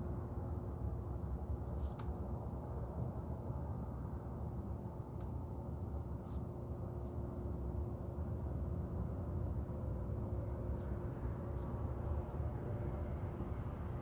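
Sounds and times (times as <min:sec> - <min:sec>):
steady hum tone: 0:00.0 - 0:14.0.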